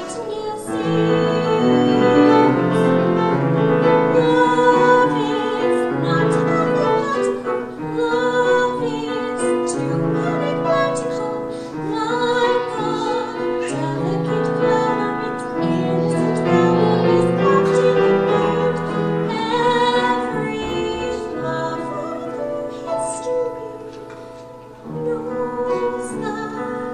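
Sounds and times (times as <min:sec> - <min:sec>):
woman singing opera: 0:00.0 - 0:24.0, 0:24.8 - 0:26.9
piano accompaniment: 0:00.0 - 0:26.9.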